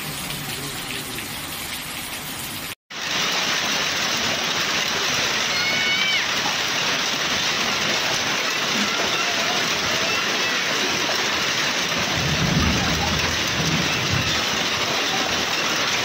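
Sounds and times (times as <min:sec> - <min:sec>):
heavy rain and hail: 0:00.0 - 0:16.0.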